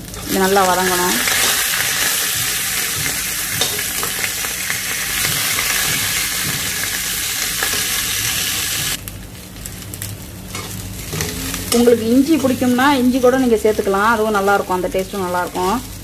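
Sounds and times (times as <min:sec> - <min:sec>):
beans sizzling in oil: 0:00.0 - 0:16.0.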